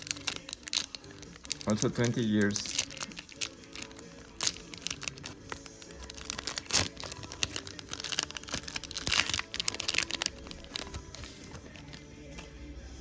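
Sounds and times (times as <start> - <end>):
plastic wrapper crinkling: 0.0 - 12.6
plastic wrapper ripping: 0.0 - 12.6.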